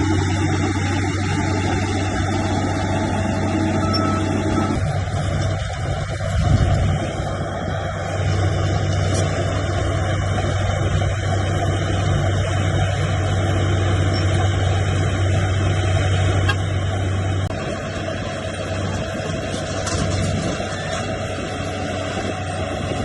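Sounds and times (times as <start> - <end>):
bulldozer diesel engine: 0.0 - 23.0
track and machinery noise: 0.0 - 23.0.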